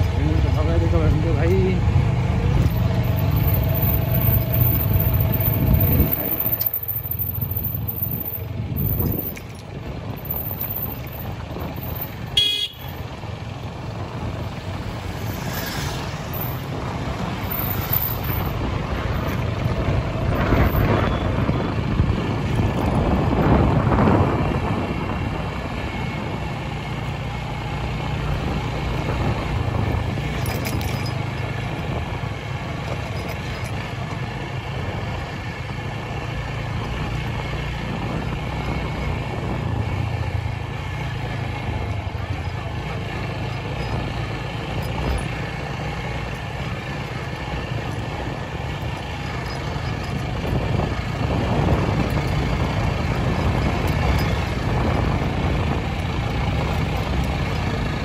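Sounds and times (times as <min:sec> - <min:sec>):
motor vehicle rumble: 0:00.0 - 0:58.0.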